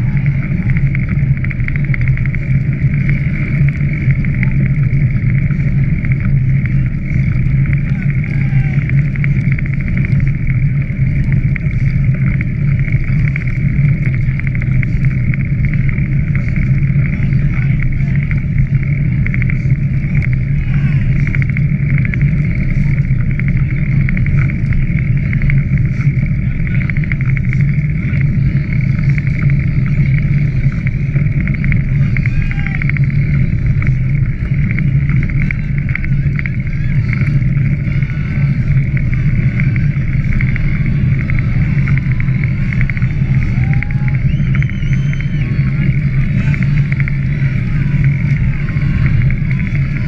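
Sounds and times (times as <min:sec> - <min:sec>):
low hum: 0:00.0 - 0:50.0
rumbling wind: 0:00.0 - 0:50.0.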